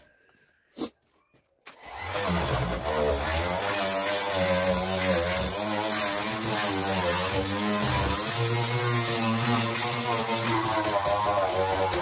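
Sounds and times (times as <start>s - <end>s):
power tool motor whine: 1.7s - 12.0s.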